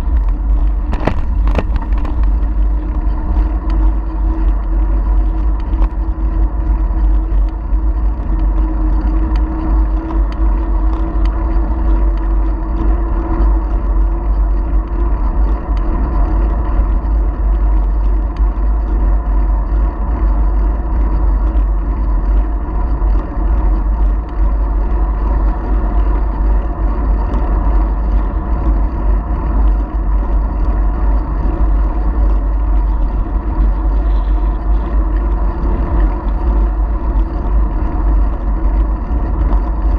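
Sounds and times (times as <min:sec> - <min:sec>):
steady hum: 0:00.0 - 0:39.9
tyre and road noise: 0:00.0 - 0:39.9
wind rumble on microphone: 0:00.0 - 0:39.9.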